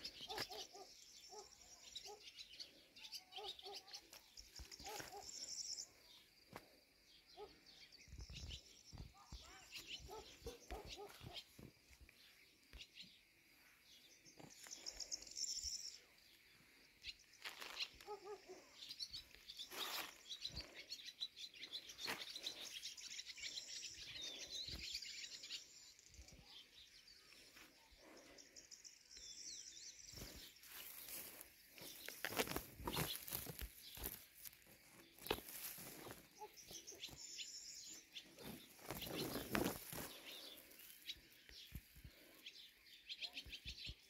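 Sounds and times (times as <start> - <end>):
small birds chirping and trilling: 0.0 - 44.0.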